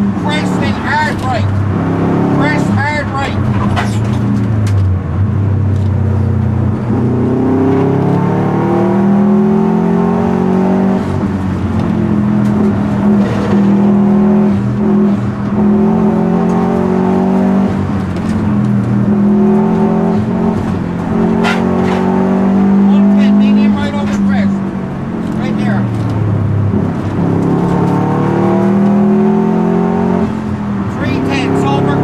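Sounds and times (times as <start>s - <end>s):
car engine revving in cabin: 0.0s - 32.0s.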